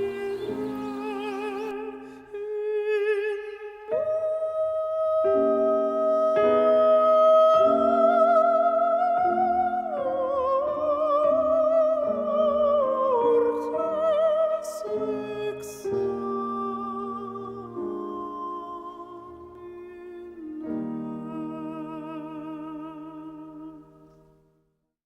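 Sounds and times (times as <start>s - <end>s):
slow vibrato melody: 0.0s - 23.8s
piano chords: 0.0s - 24.5s.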